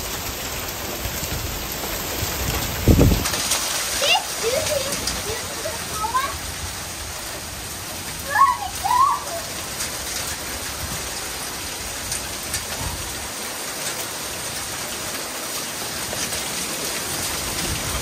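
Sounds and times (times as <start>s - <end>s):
heavy rain pouring: 0.0s - 18.0s
sharp ticks of raindrops: 0.0s - 18.0s.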